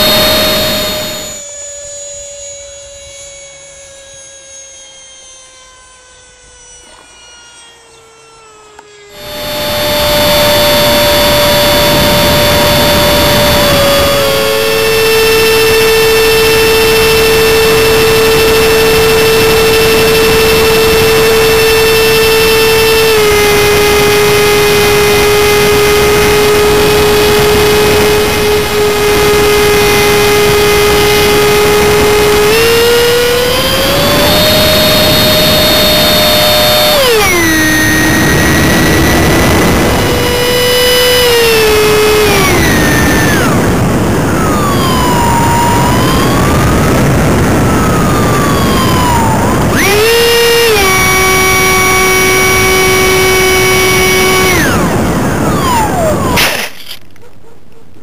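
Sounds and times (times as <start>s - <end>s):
ducted fan whine: 0.0s - 57.2s.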